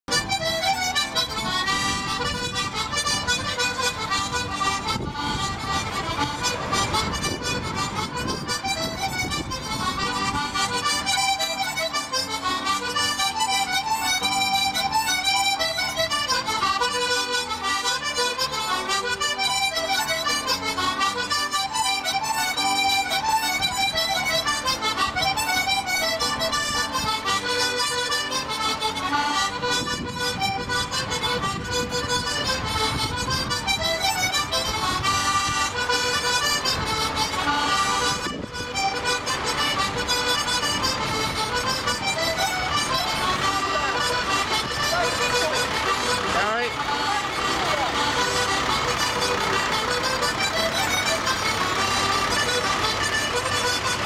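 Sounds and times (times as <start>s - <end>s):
accordion music: 0.0s - 54.0s.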